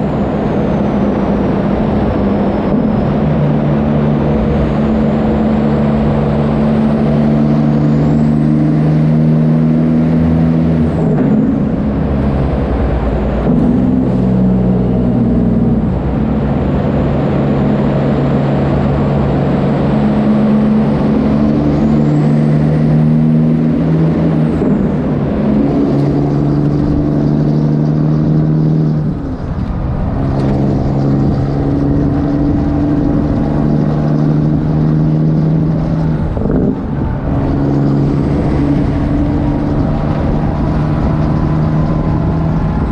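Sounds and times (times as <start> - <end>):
diesel truck engine revving: 0.0 - 42.9.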